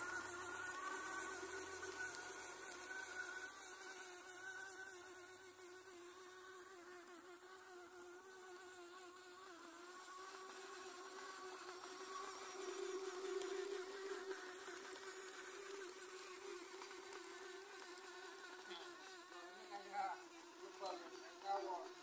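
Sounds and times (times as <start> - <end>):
toy motors whining: 0.0 - 22.0.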